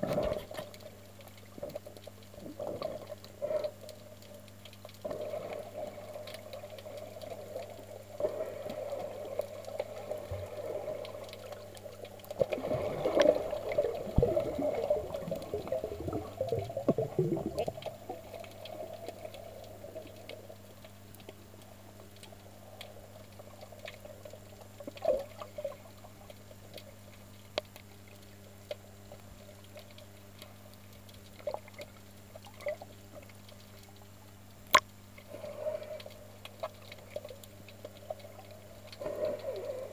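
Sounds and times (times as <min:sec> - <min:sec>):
faint low hum: 0:00.0 - 0:39.9
underwater sloshing and bubbling: 0:00.0 - 0:39.9.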